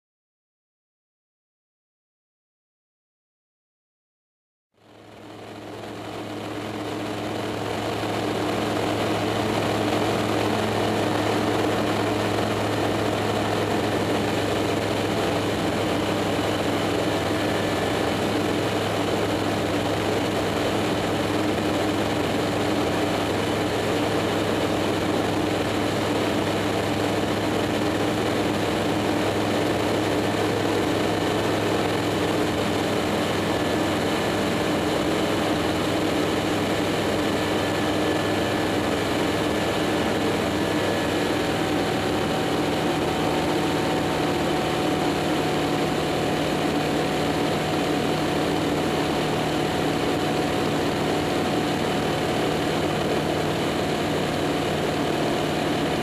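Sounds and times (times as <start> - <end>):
aircraft engine and propeller drone: 4.8 - 56.0.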